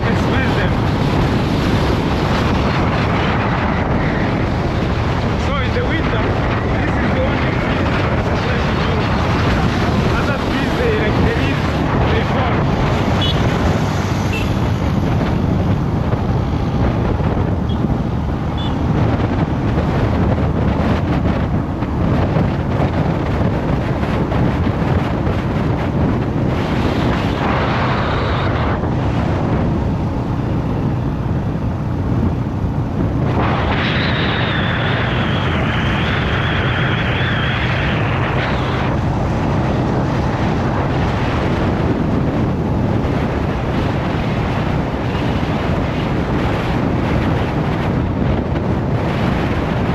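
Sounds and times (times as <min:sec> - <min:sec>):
vehicle rumble: 0:00.0 - 0:49.9
wind buffeting microphone: 0:00.0 - 0:49.9.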